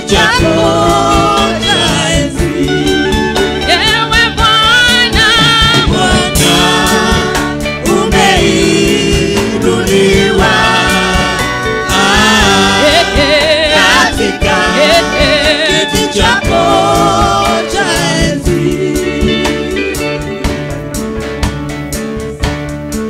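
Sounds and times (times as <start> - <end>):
woman singing into a microphone: 0.0 - 20.3
backing singers: 0.0 - 20.8
band playing a steady beat: 0.0 - 23.0.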